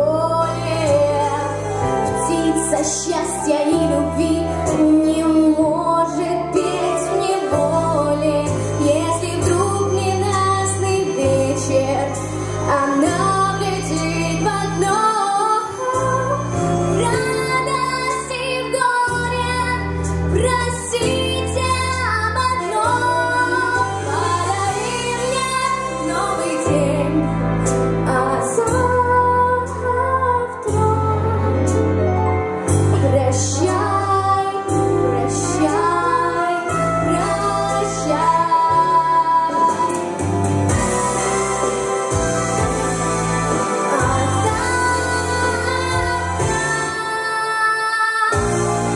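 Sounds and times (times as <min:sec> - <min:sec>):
girl singing into microphone: 0:00.0 - 0:27.2, 0:28.1 - 0:31.8, 0:32.9 - 0:40.2, 0:43.9 - 0:48.6
recorded backing music with bass: 0:00.0 - 0:48.9.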